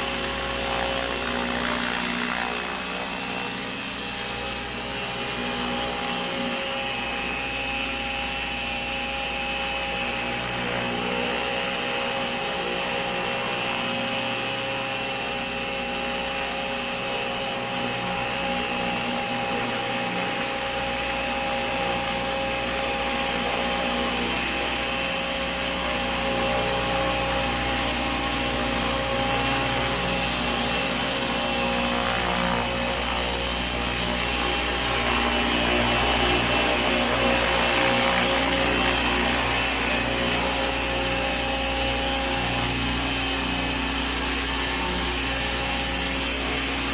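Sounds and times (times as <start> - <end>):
electric motor whine: 0.0 - 46.9
helicopter rotor noise: 0.0 - 46.9.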